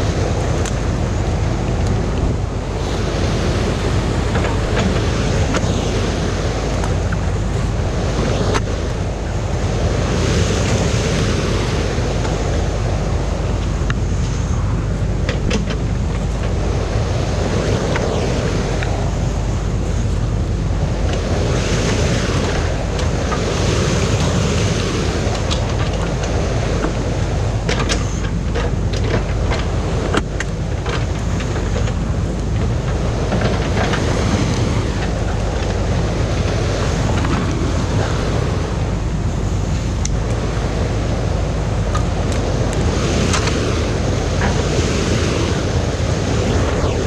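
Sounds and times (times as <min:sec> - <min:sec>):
water rushing over weir: 0:00.0 - 0:47.0.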